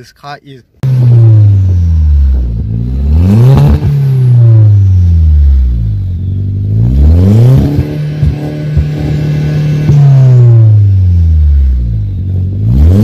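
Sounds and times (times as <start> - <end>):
car engine revving: 0.8 - 13.0
exhaust stutters: 0.8 - 13.0.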